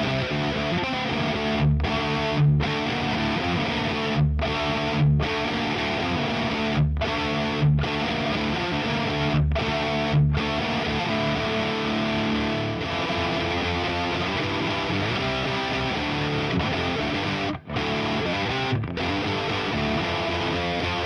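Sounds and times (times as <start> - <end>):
distorted electric guitar riffing: 0.0 - 21.0.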